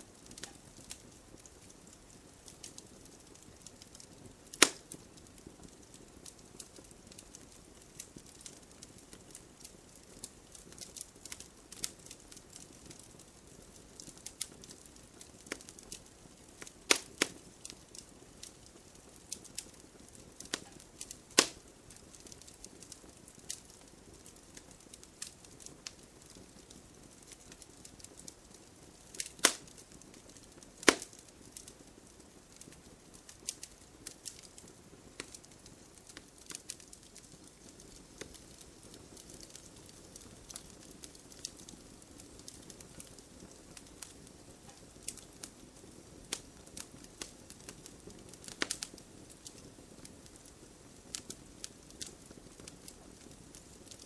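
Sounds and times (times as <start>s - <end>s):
faint steady hiss: 0.0s - 54.0s
wood fire crackling: 0.0s - 54.0s.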